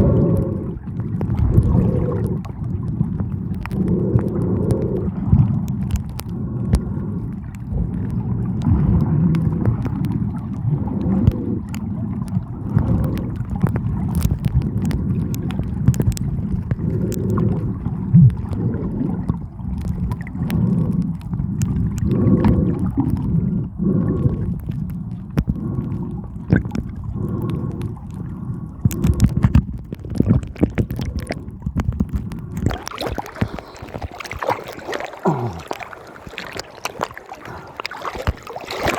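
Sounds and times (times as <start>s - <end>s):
muffled underwater rumble: 0.0s - 38.9s
water gurgling: 0.0s - 38.9s.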